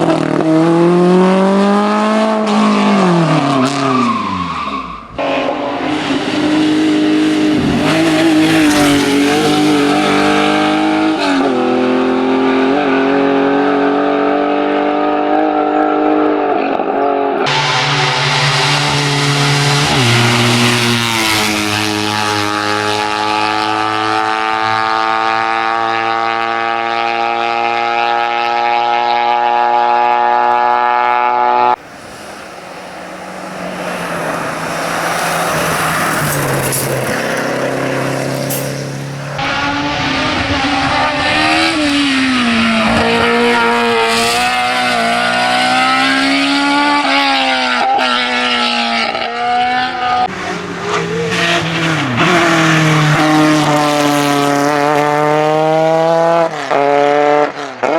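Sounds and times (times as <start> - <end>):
car approaching: 0.0 - 57.9
race car engines at high revs: 0.0 - 57.9.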